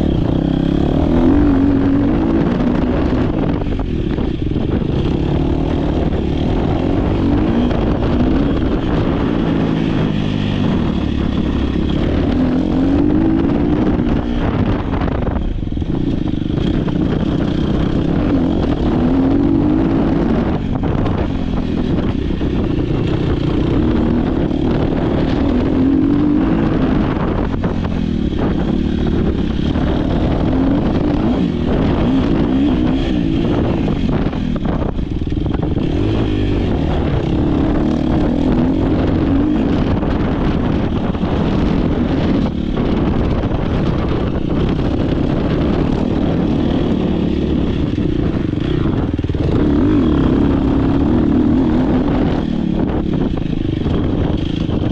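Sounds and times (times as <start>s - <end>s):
dirt bike engine racing: 0.0s - 54.9s.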